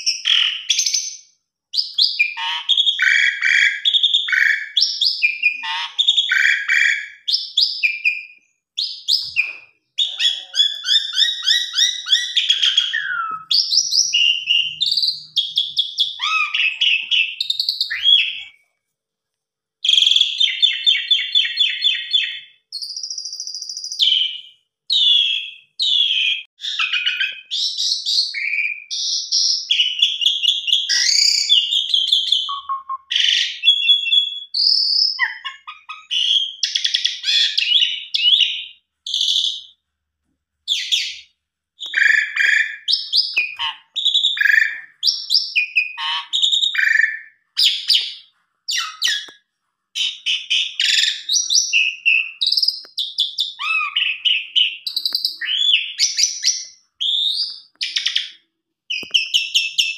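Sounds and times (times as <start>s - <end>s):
starling singing: 1.8s - 18.6s, 19.9s - 39.7s, 40.7s - 49.3s, 50.0s - 59.9s.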